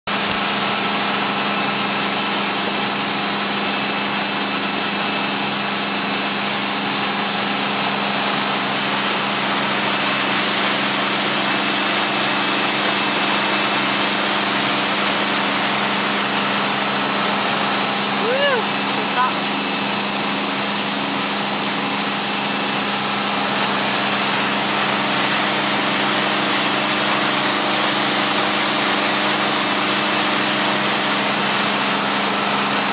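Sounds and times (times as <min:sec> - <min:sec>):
boat engine running: 0:00.1 - 0:32.9
churning wake water: 0:00.1 - 0:32.9.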